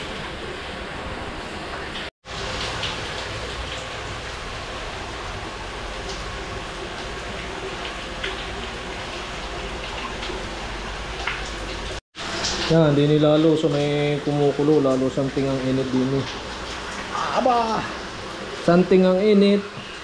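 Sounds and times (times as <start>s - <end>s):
water running in a steady hiss: 0.0s - 20.0s.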